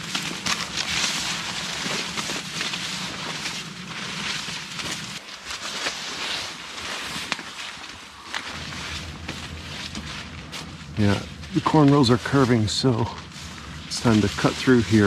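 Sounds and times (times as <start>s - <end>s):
dry corn stalks rustling: 0.0s - 15.0s.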